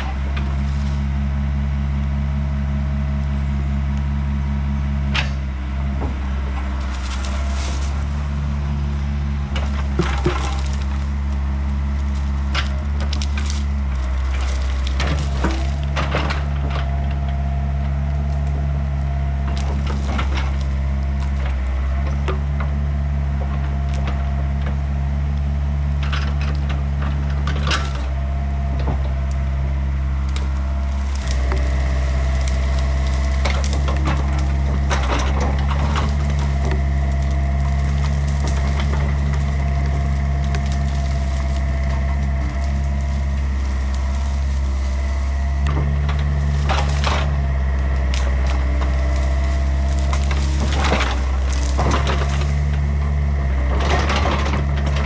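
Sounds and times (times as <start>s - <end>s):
excavator diesel engine running: 0.0s - 55.0s
wood cracking and splintering: 0.0s - 55.0s.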